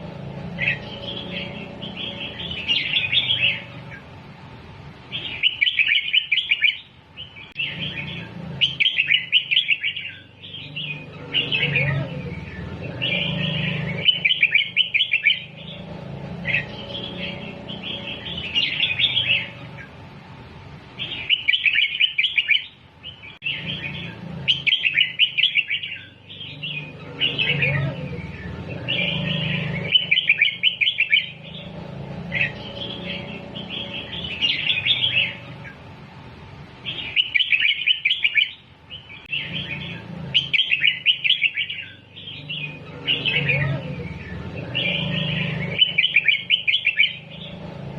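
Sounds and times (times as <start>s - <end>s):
bird chirping song: 0.0s - 4.2s, 5.0s - 20.1s, 20.8s - 47.9s.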